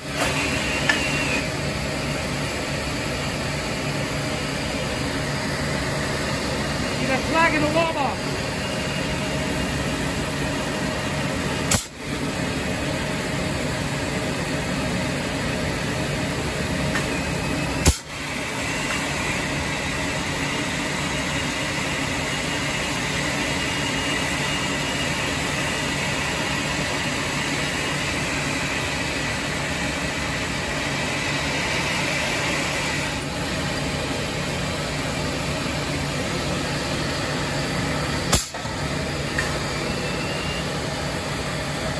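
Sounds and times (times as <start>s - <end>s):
industrial machinery noise: 0.0s - 41.9s.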